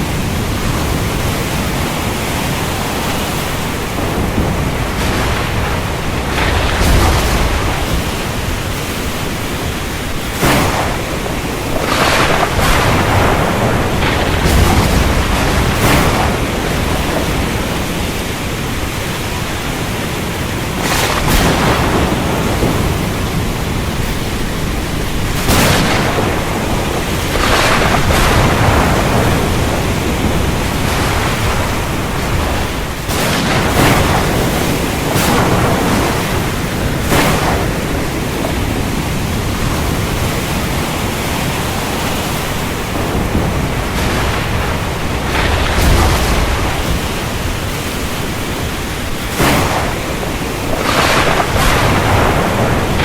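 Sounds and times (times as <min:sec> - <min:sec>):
heavy rain: 0:00.0 - 0:53.0
low thunder rumble: 0:00.0 - 0:53.0
thunder cracks: 0:00.0 - 0:53.0.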